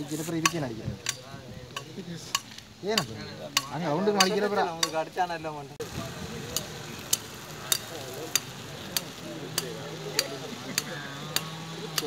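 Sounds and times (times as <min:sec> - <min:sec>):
indistinct voices talking: 0:00.0 - 0:12.0.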